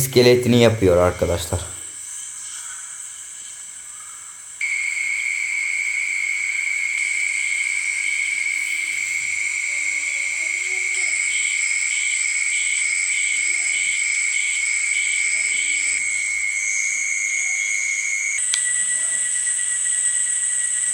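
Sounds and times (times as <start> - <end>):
insects chirring: 0.0 - 20.9.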